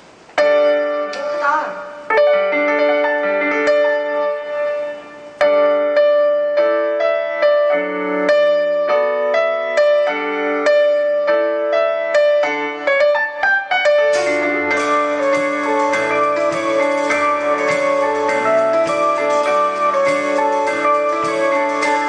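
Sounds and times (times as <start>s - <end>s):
piano chords ringing: 0.0s - 22.0s.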